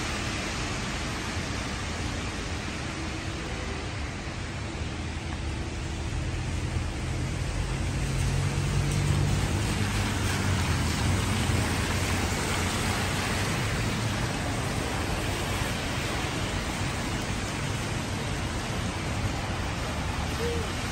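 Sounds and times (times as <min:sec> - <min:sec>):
heavy rain on wet street: 0:00.0 - 0:20.9
traffic rumbling on wet road: 0:00.0 - 0:20.9.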